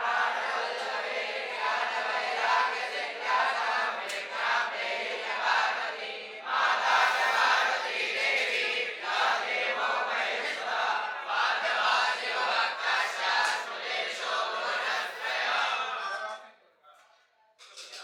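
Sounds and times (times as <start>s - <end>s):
children chanting in unison: 0.0s - 16.0s.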